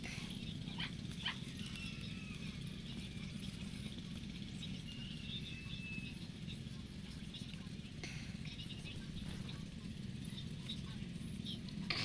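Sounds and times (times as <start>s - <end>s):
faint thin whine: 0.0s - 12.0s.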